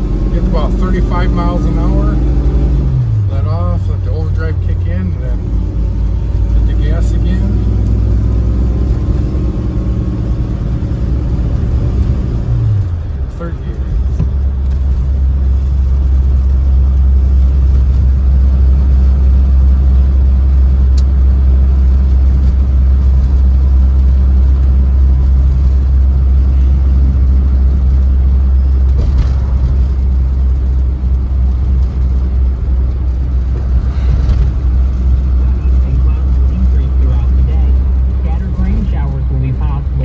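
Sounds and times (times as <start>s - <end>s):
car engine rumble: 0.0s - 40.0s
road noise: 0.0s - 40.0s.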